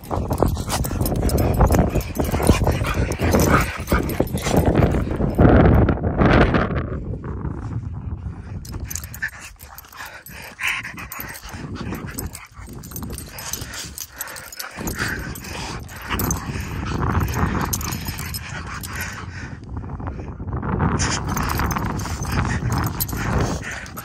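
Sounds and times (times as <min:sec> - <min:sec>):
dog sounds close to microphone: 0:00.0 - 0:05.6, 0:08.7 - 0:19.6, 0:20.9 - 0:24.0.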